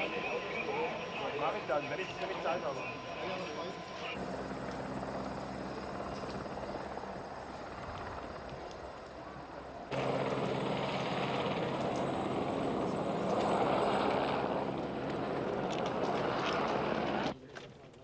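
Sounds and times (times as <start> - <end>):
mechanical drone: 0.0 - 8.7, 9.8 - 17.3.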